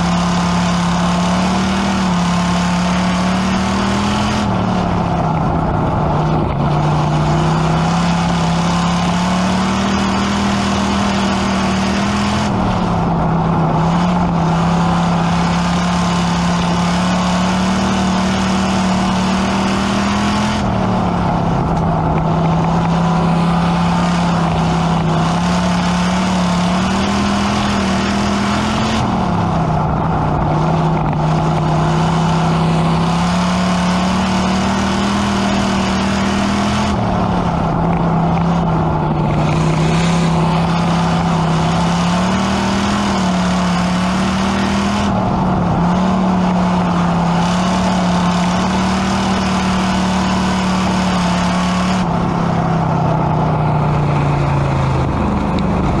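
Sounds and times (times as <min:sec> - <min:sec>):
race car engine from cockpit: 0:00.0 - 0:56.0.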